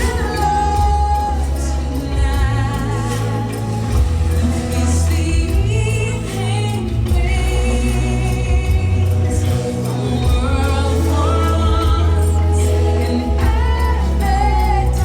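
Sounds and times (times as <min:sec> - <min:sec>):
choir singing: 0:00.0 - 0:15.0
heavy steady bass: 0:00.0 - 0:15.0
soundtrack music with singing: 0:00.0 - 0:15.0.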